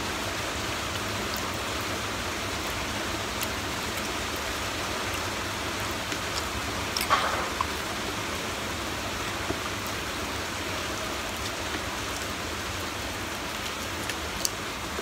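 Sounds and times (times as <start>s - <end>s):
steady rain-like hiss: 0.0s - 15.0s.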